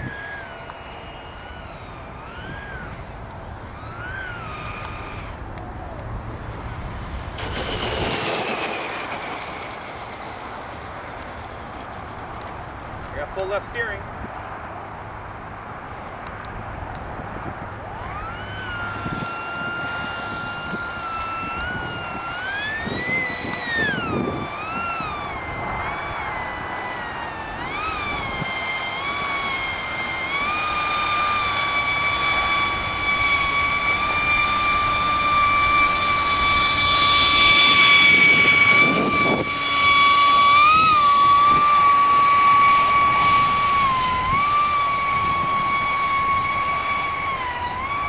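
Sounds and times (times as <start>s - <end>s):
electric ducted fan whining: 0.0s - 48.0s.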